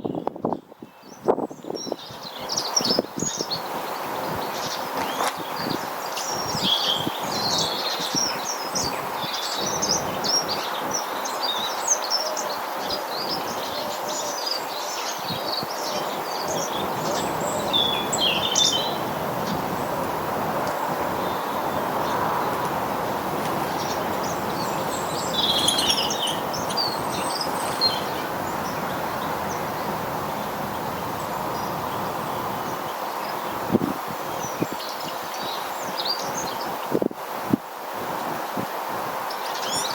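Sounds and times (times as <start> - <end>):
small birds chirping: 0.0 - 37.0
steady background hiss: 2.4 - 39.9.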